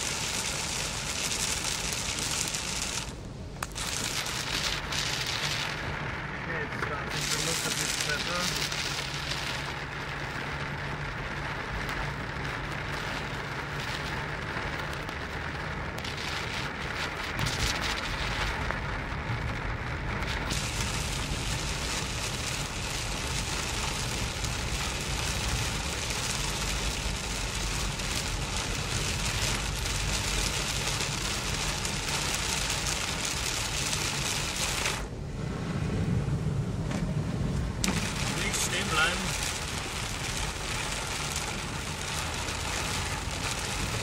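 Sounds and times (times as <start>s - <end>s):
heavy rain on car windshield: 0.0s - 44.0s
tyre and road noise: 0.0s - 44.0s.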